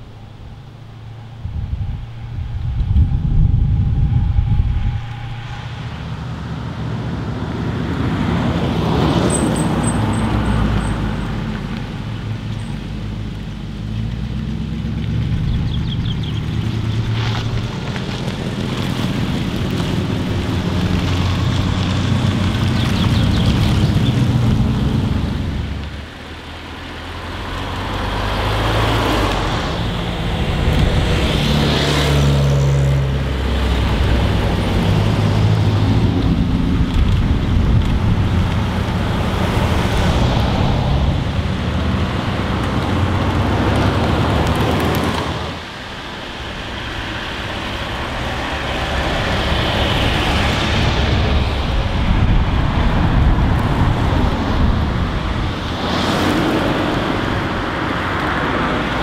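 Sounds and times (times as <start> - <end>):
cars driving past: 0.0 - 59.0.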